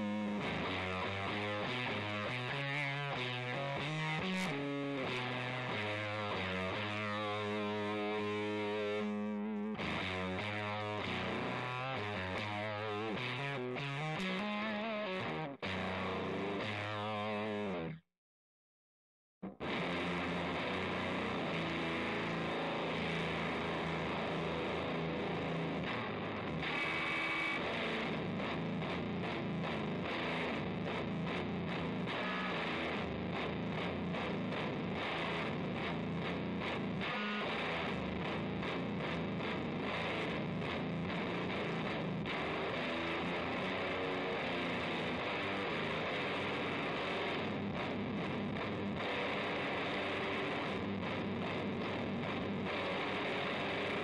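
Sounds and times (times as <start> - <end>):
fuzzed electric guitar: 0.0 - 18.0, 19.4 - 54.0.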